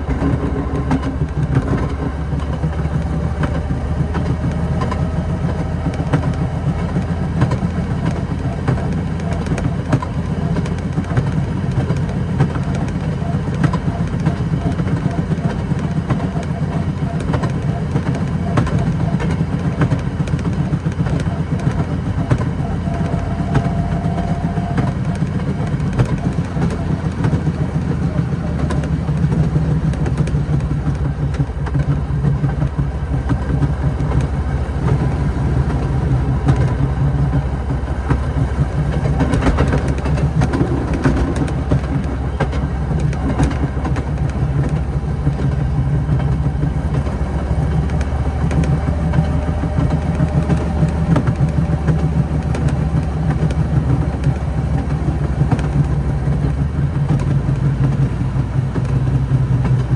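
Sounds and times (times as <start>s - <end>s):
rail motorcar engine droning: 0.0s - 59.9s.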